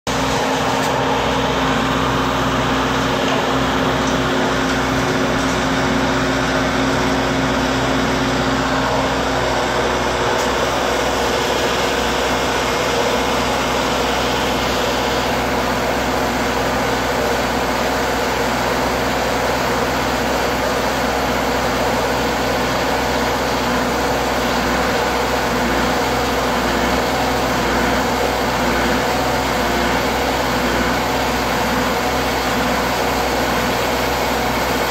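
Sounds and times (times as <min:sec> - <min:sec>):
machine hum: 0:00.1 - 0:34.9.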